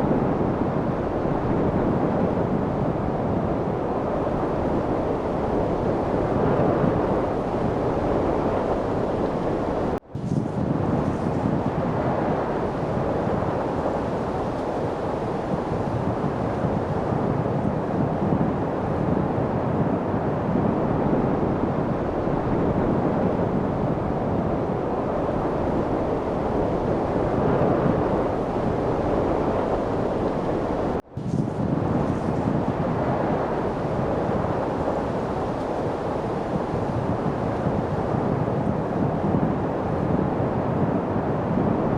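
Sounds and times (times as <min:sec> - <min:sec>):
wind rushing: 0:00.0 - 0:41.9.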